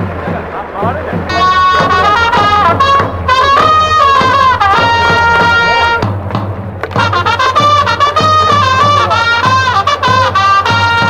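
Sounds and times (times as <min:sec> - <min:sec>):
trumpets playing cheer melody: 0:01.3 - 0:06.2, 0:06.8 - 0:11.0.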